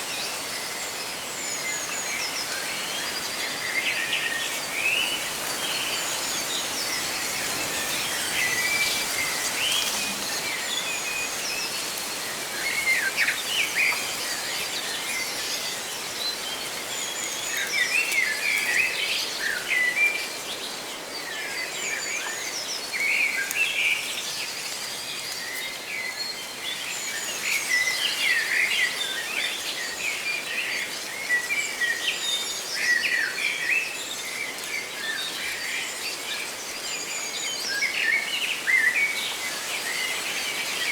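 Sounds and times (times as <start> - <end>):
leaves rustling in wind: 0.0 - 40.9.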